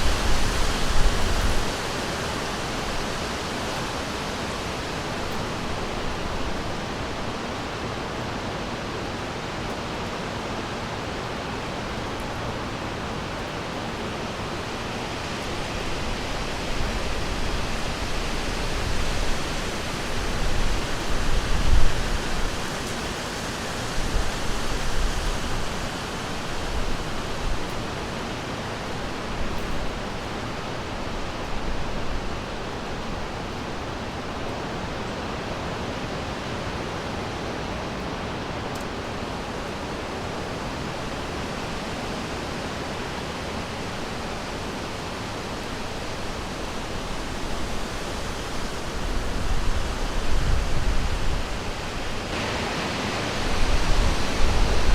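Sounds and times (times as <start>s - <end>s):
flowing river water: 0.0s - 54.9s.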